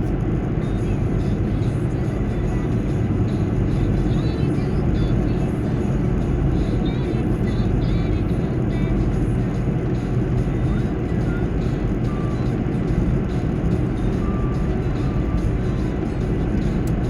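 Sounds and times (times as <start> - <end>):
car radio music: 0.0 - 17.0
road and tyre noise: 0.0 - 17.0.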